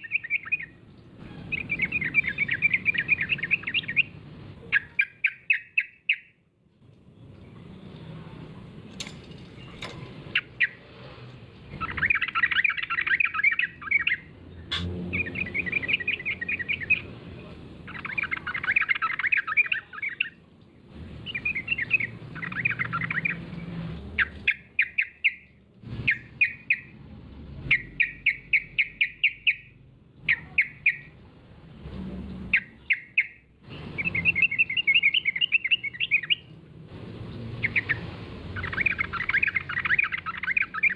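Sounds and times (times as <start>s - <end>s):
bulbul chattering song: 0.0s - 6.4s, 9.5s - 10.9s, 11.7s - 20.4s, 21.2s - 23.4s, 24.1s - 27.0s, 27.6s - 31.2s, 32.5s - 36.6s, 37.3s - 40.9s.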